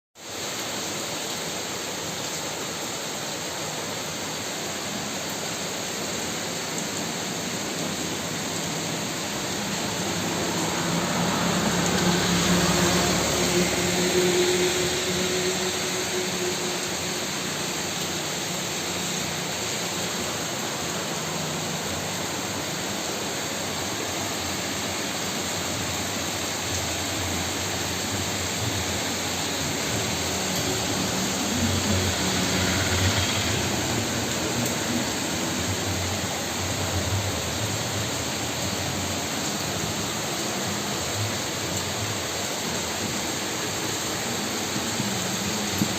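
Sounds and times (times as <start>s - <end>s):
heavy rain: 0.2s - 45.9s.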